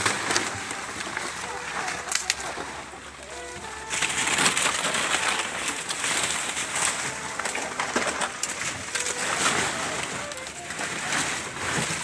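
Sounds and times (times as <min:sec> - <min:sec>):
banana leaves rustling and crackling: 0:00.0 - 0:12.0.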